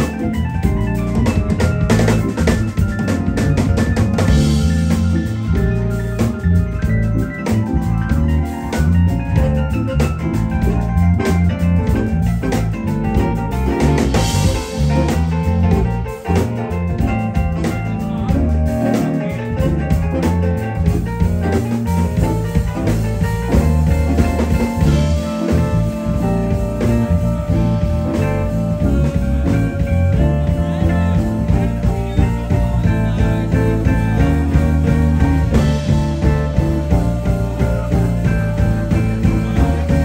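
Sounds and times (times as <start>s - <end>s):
live band playing instrumental: 0.0s - 40.0s.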